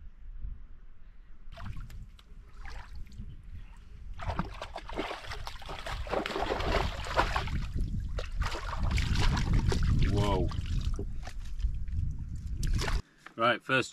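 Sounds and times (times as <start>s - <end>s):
wind rumble on microphone: 0.0s - 13.0s
water splashing and sloshing: 1.5s - 13.0s.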